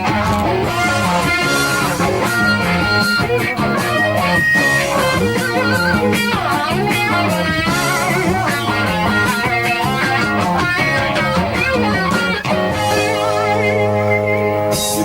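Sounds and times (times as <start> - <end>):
bass guitar: 0.0 - 15.0
drums: 0.0 - 15.0
electric lead guitar: 0.0 - 15.0.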